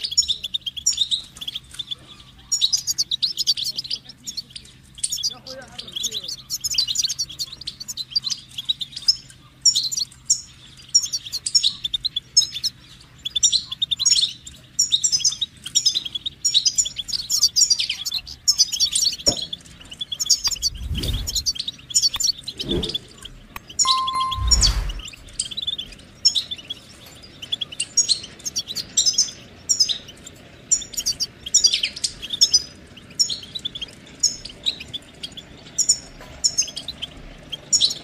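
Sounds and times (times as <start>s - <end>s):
bird twittering song: 0.0s - 38.0s.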